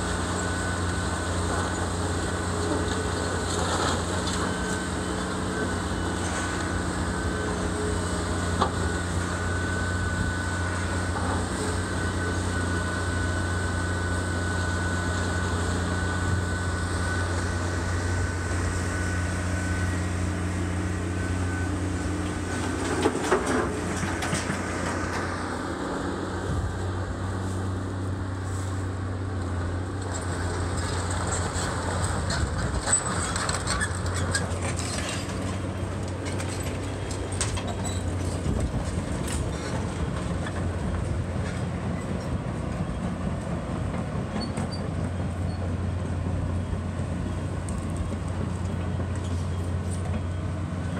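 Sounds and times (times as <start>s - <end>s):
diesel engine of demolition machine: 0.0s - 50.9s.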